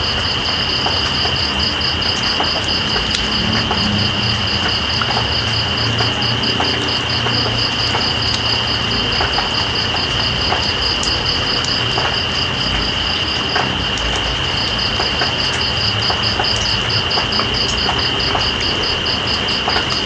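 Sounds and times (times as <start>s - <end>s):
insect high continuous whine: 0.0s - 20.0s
steady rain: 0.0s - 20.0s.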